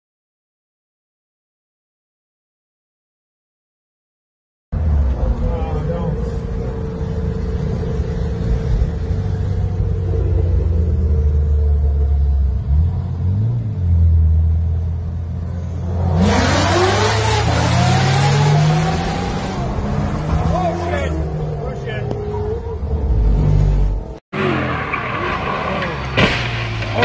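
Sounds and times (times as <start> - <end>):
car engine revving: 4.8 - 27.0.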